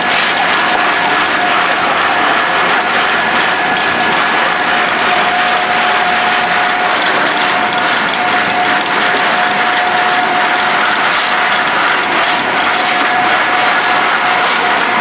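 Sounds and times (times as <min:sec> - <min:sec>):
pellet mill machine whine: 0:00.0 - 0:15.0.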